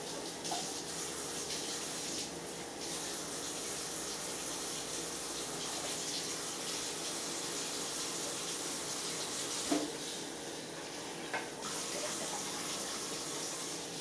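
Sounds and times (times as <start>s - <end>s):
water running from tap: 0.0s - 14.0s.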